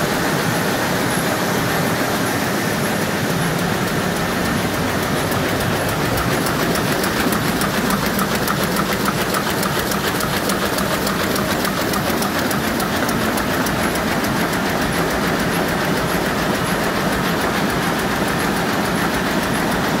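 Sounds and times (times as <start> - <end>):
constant machine hum: 0.0 - 20.0
printing press clattering: 0.0 - 20.0.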